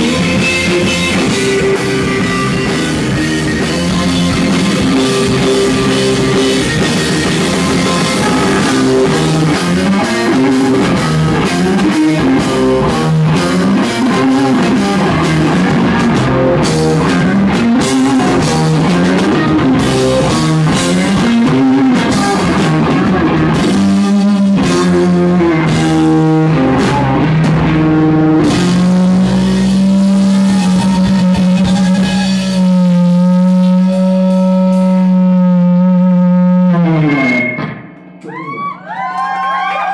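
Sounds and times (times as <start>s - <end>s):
drum kit playing: 0.0s - 38.5s
electric guitar riff: 0.0s - 38.7s.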